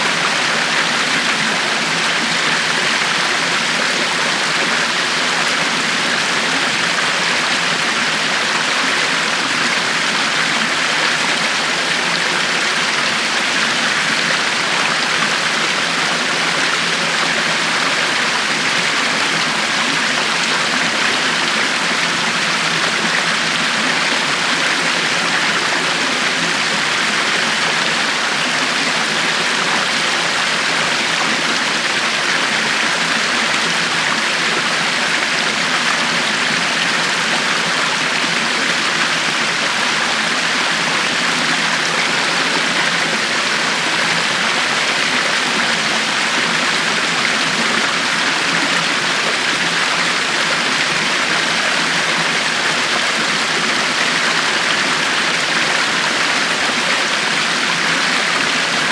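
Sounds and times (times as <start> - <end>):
river water flowing over stones: 0.0 - 58.9.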